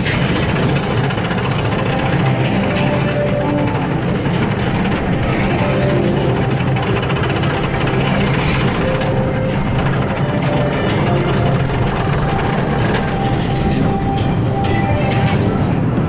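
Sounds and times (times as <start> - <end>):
roller coaster wheels on wooden track: 0.0 - 16.0.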